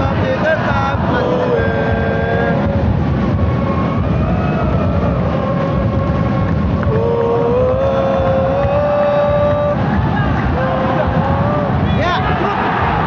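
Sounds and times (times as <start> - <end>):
long held rising tones: 0.0 - 11.9
crowd din: 0.0 - 13.0.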